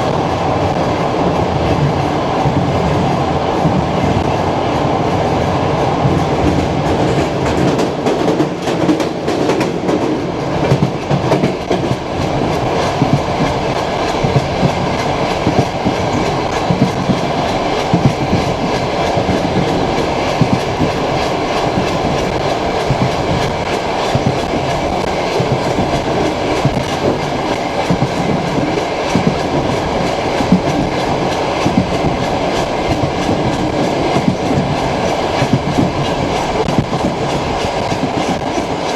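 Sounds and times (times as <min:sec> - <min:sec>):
train carriage rumble: 0:00.0 - 0:38.9
train wheels clacking over rail joints: 0:06.0 - 0:38.9.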